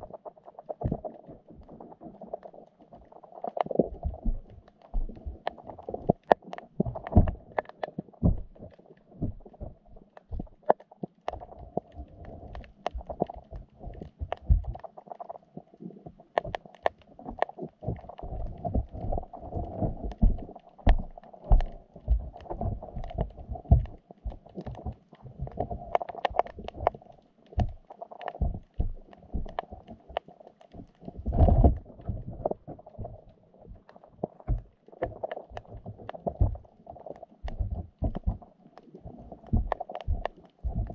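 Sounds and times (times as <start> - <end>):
muffled underwater water noise: 0.0 - 40.9.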